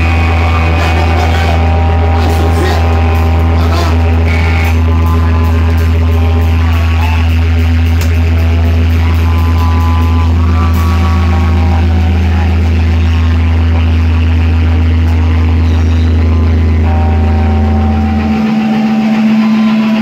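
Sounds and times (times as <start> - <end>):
electric guitar and bass drone: 0.0 - 20.0
wavering high guitar tones: 0.0 - 20.0.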